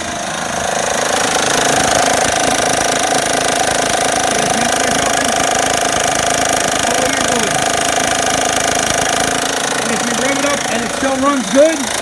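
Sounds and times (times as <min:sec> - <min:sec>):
engine knocking clatter: 0:00.0 - 0:12.0.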